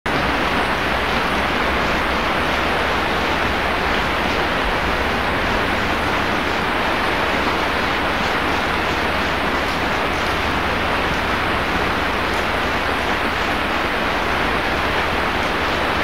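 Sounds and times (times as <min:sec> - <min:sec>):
heavy rain pouring: 0:00.1 - 0:16.0.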